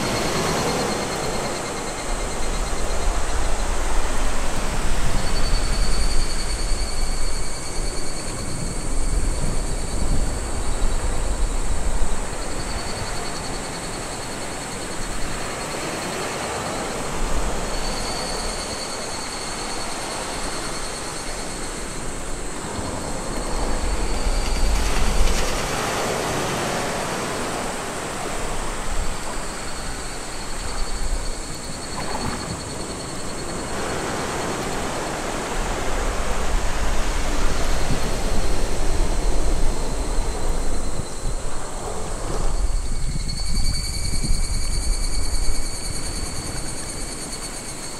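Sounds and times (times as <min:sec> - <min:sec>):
wind buffeting microphone: 0:00.0 - 0:47.3
thin high whine: 0:00.0 - 0:47.9.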